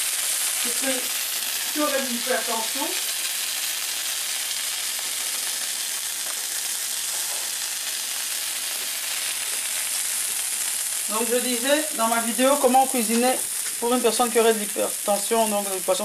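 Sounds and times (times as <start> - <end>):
fish sizzling on a grill pan: 0.0 - 16.0.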